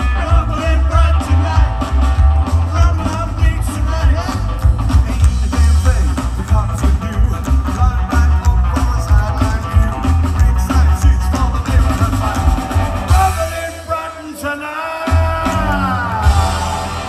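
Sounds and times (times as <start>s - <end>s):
pulsing bass line: 0.0s - 13.6s, 15.1s - 17.0s
live rockabilly band: 0.0s - 17.0s.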